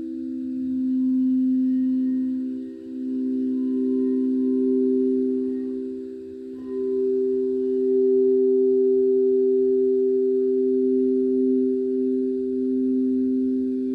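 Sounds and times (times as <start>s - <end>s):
crystal singing bowls ringing: 0.0s - 13.9s.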